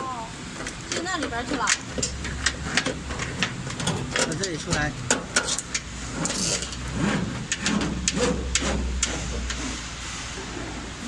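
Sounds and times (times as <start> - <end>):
low machine hum: 0.0 - 11.0
cable clicks and rustles: 0.5 - 9.7.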